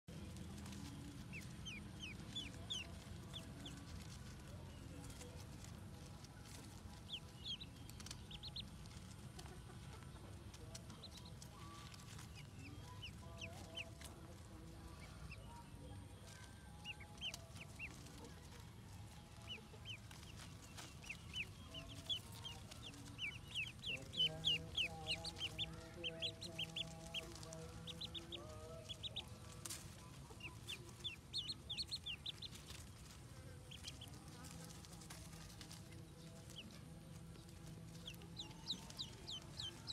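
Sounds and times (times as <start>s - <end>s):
faint low hum: 0.1s - 39.9s
ducklings peeping: 0.2s - 39.9s.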